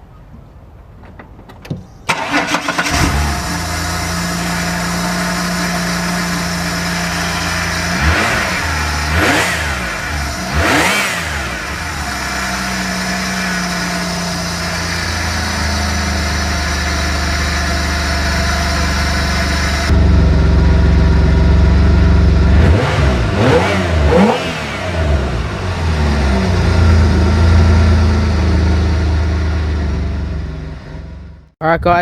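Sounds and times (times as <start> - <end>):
car engine idling and revving: 2.1 - 31.6.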